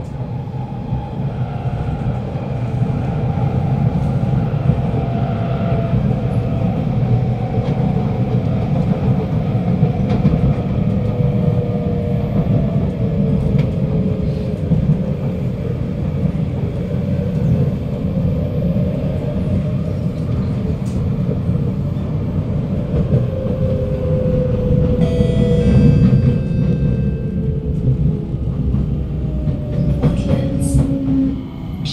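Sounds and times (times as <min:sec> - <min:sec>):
train wheels rumbling on track: 0:00.0 - 0:31.9.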